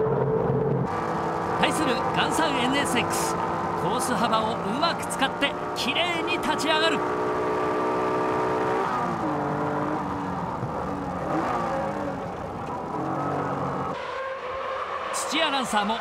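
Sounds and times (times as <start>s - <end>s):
race car engine revving: 0.0s - 15.2s.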